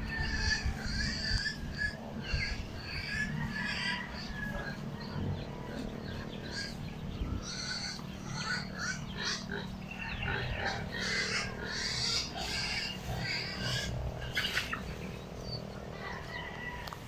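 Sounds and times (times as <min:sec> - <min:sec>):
steady low rumble: 0:00.0 - 0:16.4
birds chirping: 0:00.0 - 0:17.0.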